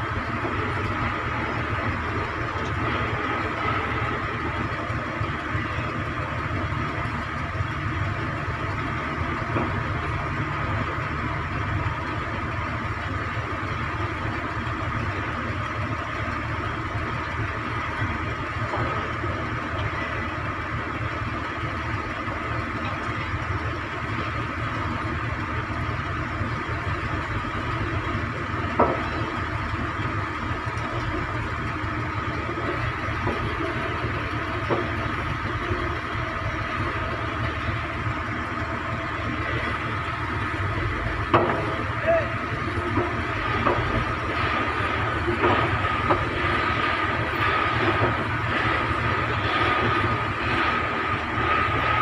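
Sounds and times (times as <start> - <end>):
heavy piling machinery drone: 0.0 - 52.0.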